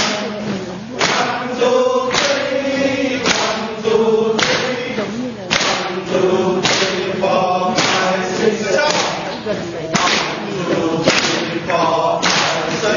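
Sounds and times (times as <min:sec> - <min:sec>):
people clapping in unison: 0:00.0 - 0:00.4, 0:01.0 - 0:12.9
group of people chanting: 0:00.0 - 0:12.9.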